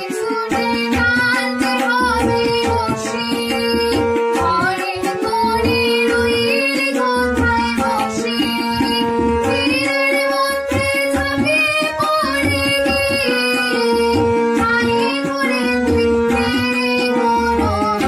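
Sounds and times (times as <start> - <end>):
harmonium held notes: 0.0 - 18.0
woman singing: 0.0 - 18.0.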